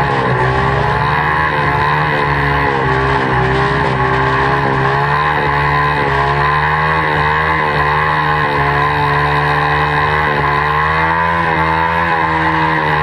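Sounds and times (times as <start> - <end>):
small motorbike engine revving: 0.0 - 13.0.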